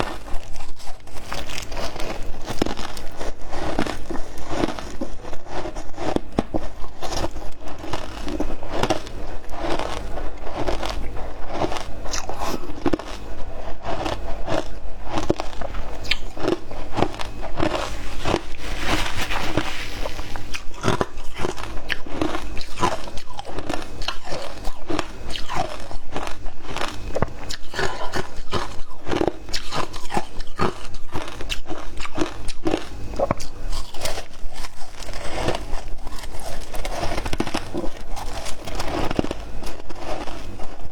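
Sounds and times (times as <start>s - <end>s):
ice being bitten and chewed: 0.0s - 40.9s.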